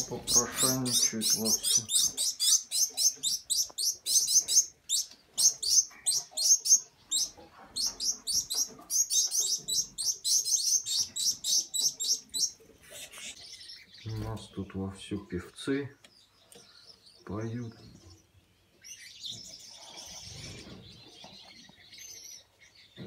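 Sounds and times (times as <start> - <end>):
finch fledglings chirping: 0.0 - 23.0.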